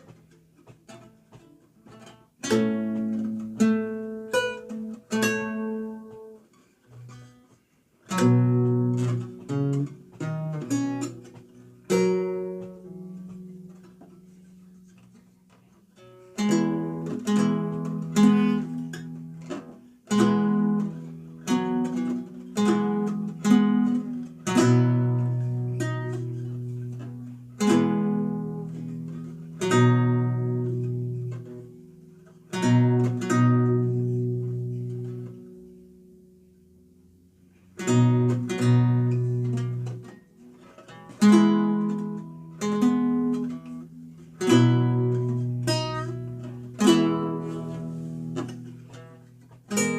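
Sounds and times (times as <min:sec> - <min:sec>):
lute playing: 0:00.0 - 0:36.4, 0:37.8 - 0:49.9.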